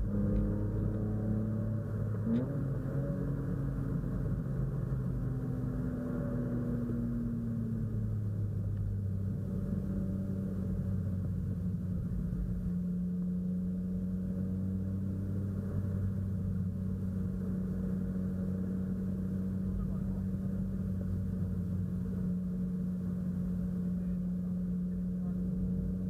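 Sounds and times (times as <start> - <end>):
car engine droning inside cabin: 0.0 - 26.0.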